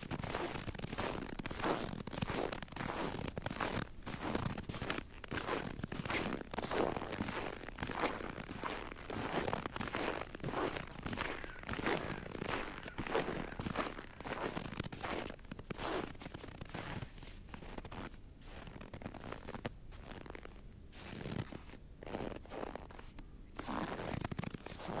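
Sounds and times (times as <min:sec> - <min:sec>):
footsteps crunching in snow: 0:00.0 - 0:25.0.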